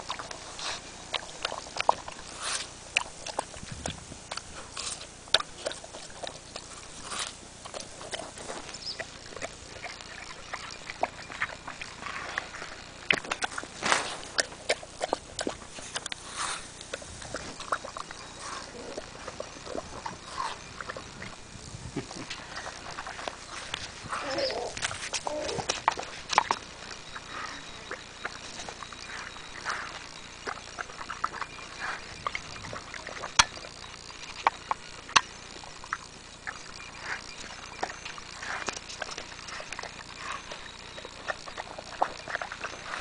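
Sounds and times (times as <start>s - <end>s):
dog chewing watermelon: 0.0s - 43.0s.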